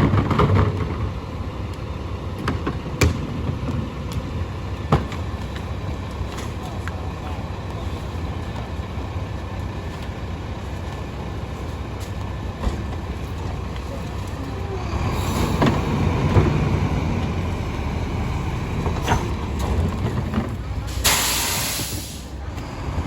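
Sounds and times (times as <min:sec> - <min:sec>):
garbage truck diesel engine: 0:00.0 - 0:23.0.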